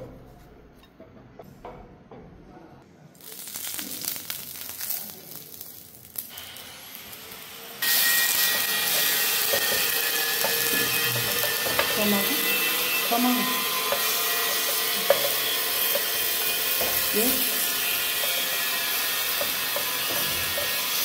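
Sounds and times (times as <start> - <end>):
food sizzling on grill pan: 3.2 - 21.0.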